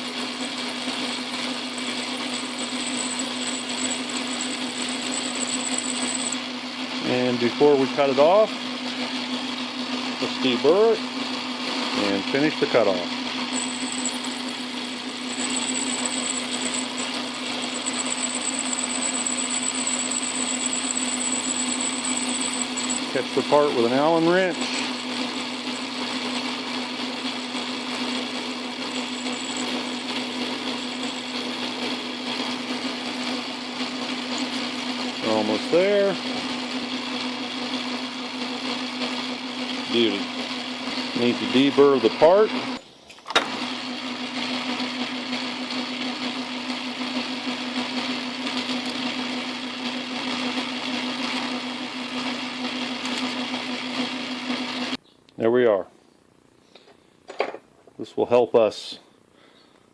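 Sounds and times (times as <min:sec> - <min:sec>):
metal lathe humming: 0:00.0 - 0:42.8, 0:43.4 - 0:55.0
cutoff tool parting metal: 0:00.2 - 0:43.8, 0:44.7 - 0:54.9.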